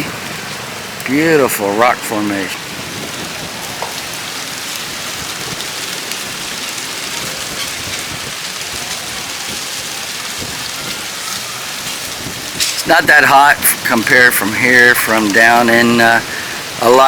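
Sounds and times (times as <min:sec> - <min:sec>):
surf breaking on rocks: 0:00.0 - 0:17.0.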